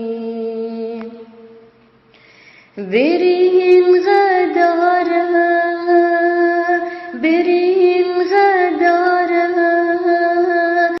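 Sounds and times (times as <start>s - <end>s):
woman singing unaccompanied: 0.0s - 1.7s, 2.8s - 11.0s.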